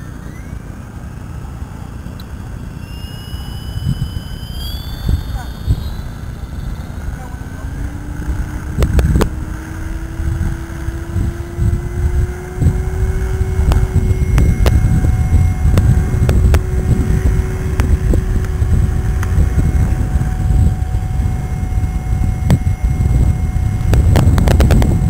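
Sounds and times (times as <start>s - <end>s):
model helicopter whining: 0.0s - 25.0s
wind noise on microphone: 0.0s - 25.0s.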